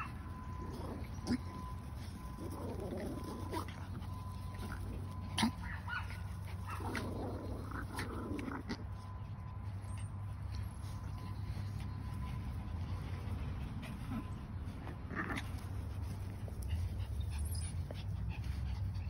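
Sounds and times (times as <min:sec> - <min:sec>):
dogs whining and yipping: 0:00.0 - 0:19.0.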